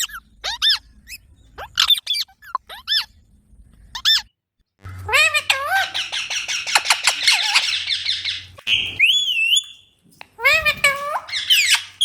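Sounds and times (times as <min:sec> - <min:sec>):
parrot squeaky calls: 0:00.0 - 0:03.2, 0:03.9 - 0:04.3, 0:04.9 - 0:12.0.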